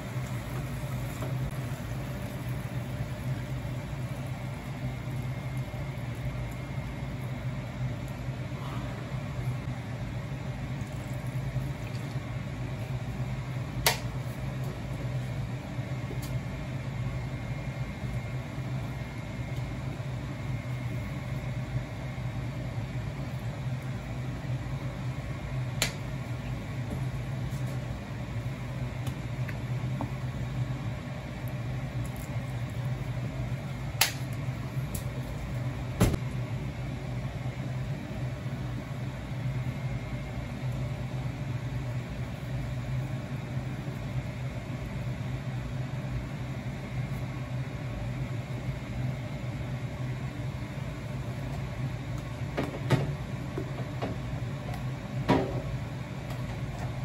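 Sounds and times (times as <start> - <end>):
low kitchen hum: 0.0 - 57.0.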